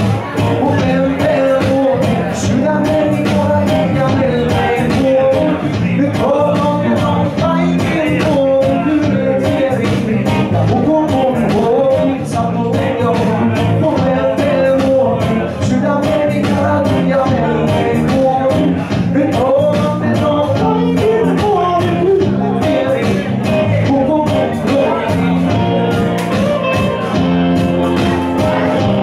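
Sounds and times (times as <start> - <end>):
electric bass: 0.0 - 29.0
electric guitar: 0.0 - 29.0
person singing into microphone: 0.0 - 29.0.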